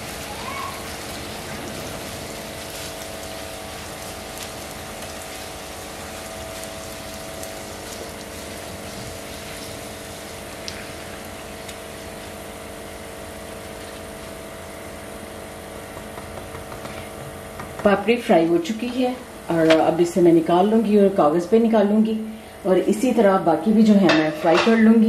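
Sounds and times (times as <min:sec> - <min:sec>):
dough sizzling in hot oil: 0:00.0 - 0:25.0
steady hum: 0:00.0 - 0:25.0.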